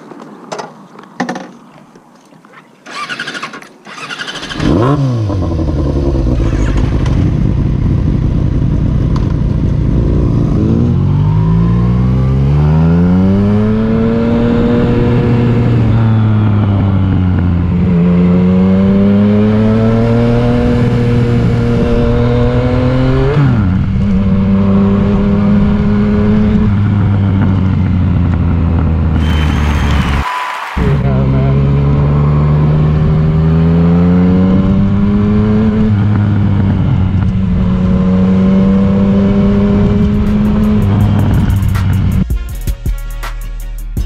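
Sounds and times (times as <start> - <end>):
motorcycle engine accelerating: 3.9 - 42.3.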